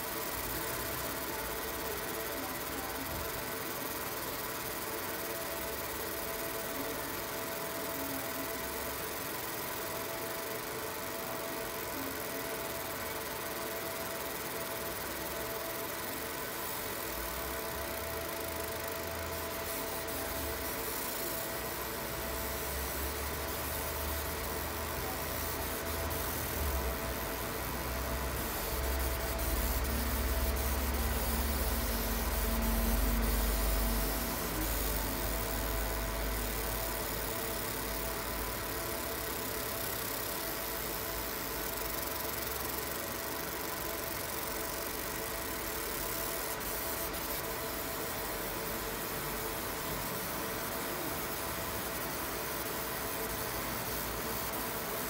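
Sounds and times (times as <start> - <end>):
laser machine humming: 0.0 - 55.0.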